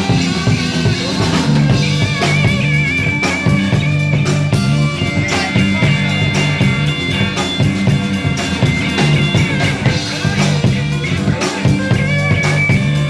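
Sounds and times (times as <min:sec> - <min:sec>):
bass guitar: 0:00.0 - 0:13.0
drum beat: 0:00.0 - 0:13.0
electric guitar lead: 0:00.0 - 0:13.0.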